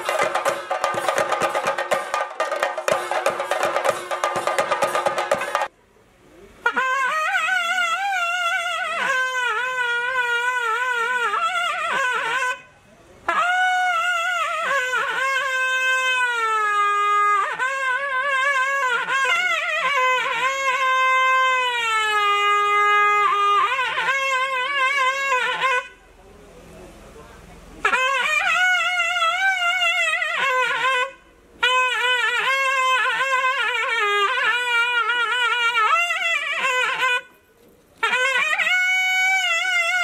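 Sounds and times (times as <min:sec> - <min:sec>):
double-reed wind instrument melody: 0:00.0 - 0:05.7, 0:06.6 - 0:26.1, 0:27.8 - 0:37.4, 0:38.0 - 0:40.0.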